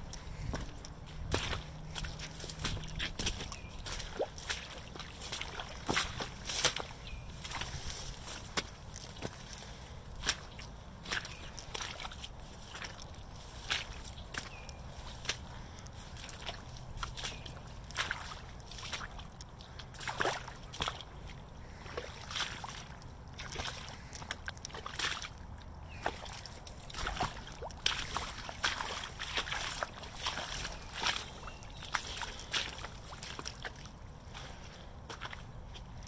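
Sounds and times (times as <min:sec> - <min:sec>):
boots squelching through mud: 0:00.0 - 0:36.0.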